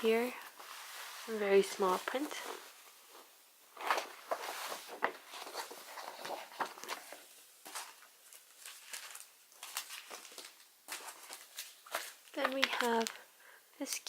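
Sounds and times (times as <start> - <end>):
paper and cardboard rustling: 0.0 - 13.2.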